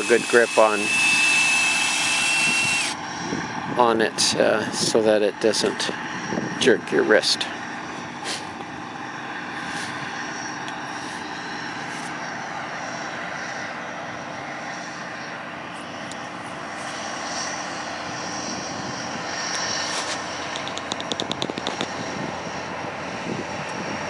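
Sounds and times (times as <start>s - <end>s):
farm machinery engines droning: 0.0s - 24.0s.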